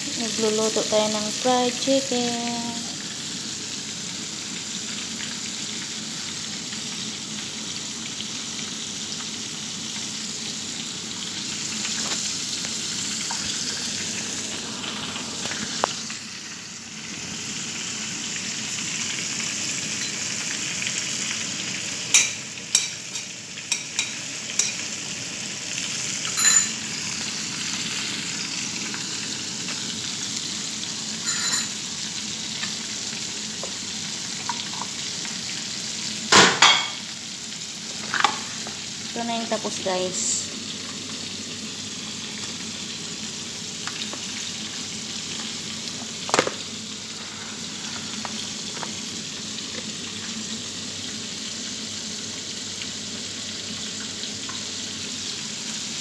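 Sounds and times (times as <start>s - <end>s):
chicken frying in hot oil: 0.0s - 56.0s.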